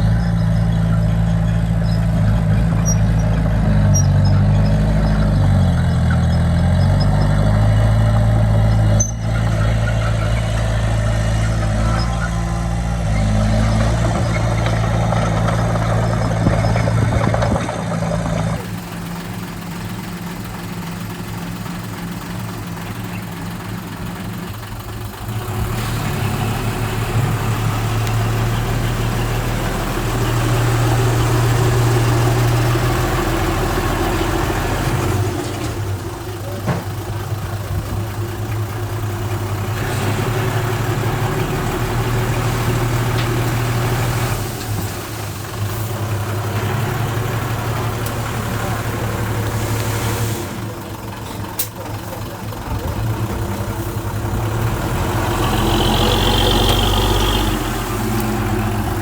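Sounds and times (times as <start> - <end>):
heavy machine diesel engine: 0.0 - 59.0.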